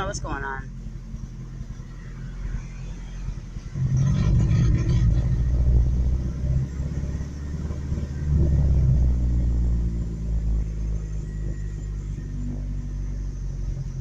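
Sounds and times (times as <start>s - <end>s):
truck engine running rough: 0.0s - 14.0s.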